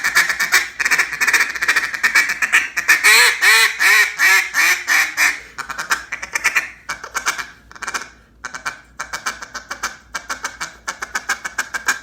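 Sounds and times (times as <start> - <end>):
duck call clucking notes: 0.0 - 12.0
duck call quacks: 0.0 - 12.0.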